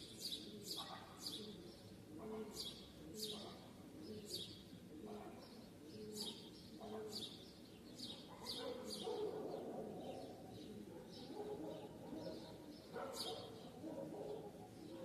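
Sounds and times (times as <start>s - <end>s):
low steady background sound: 0.0s - 15.0s
songbirds chirping: 0.0s - 15.0s.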